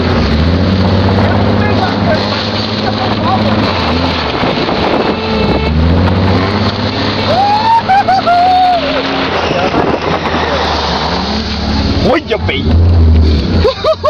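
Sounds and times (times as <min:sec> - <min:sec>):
vehicle running rumble: 0:00.0 - 0:14.0.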